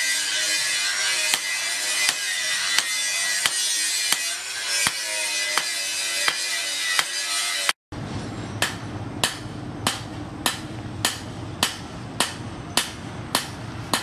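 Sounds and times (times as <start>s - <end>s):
hammer striking steel on anvil: 0.0s - 7.7s, 8.6s - 14.0s.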